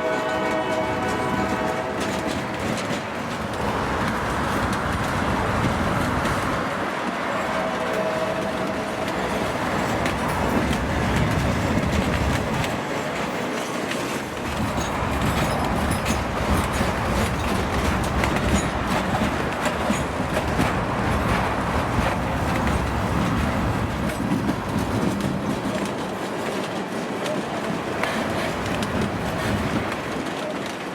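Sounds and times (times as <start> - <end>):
rail clicks: 0.0 - 30.9
train wheel noise: 0.0 - 30.9.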